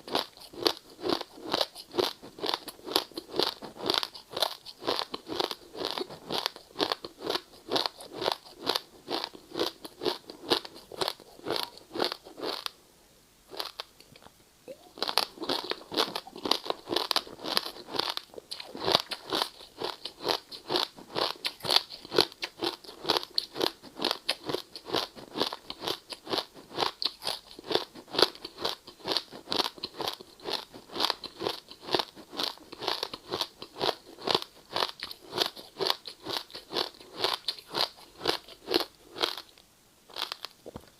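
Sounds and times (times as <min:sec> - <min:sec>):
ice being chewed: 0:00.0 - 0:12.8, 0:14.7 - 0:40.6.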